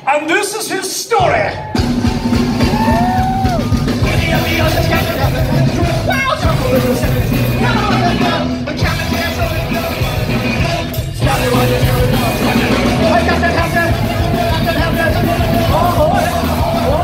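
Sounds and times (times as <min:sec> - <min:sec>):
ska-punk rock band playing: 0:00.7 - 0:17.0
person singing: 0:02.7 - 0:17.0.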